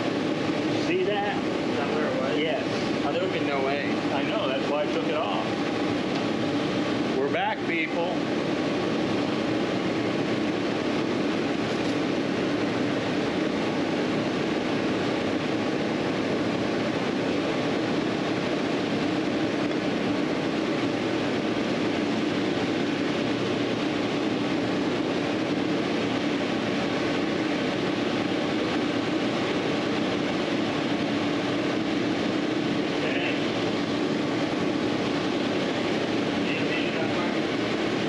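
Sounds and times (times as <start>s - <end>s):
mechanical drone: 0.0s - 38.0s.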